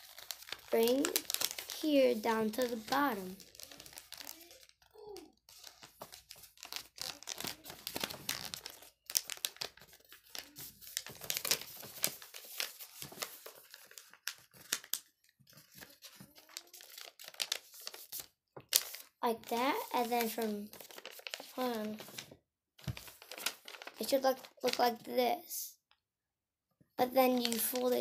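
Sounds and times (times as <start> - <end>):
paper crinkling and rustling: 0.0 - 25.1, 27.2 - 28.0.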